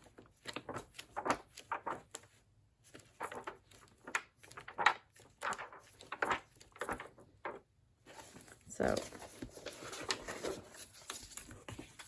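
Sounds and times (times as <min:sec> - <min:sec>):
book pages rustling and turning: 0:00.0 - 0:12.0.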